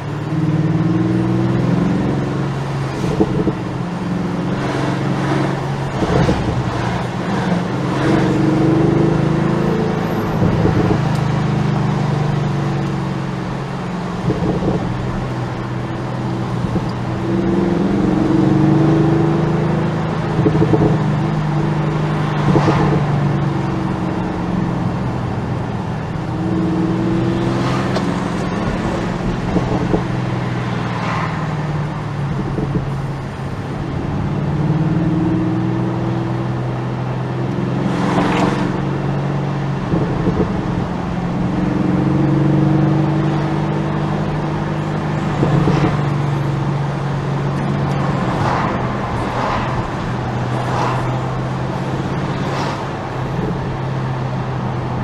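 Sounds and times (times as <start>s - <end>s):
car engine deep drone: 0.0s - 55.0s.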